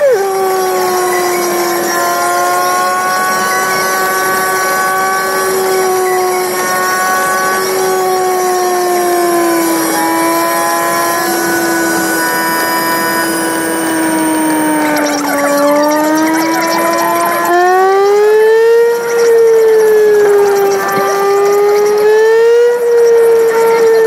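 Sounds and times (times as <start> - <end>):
sped-up car engine whine: 0.0 - 24.0.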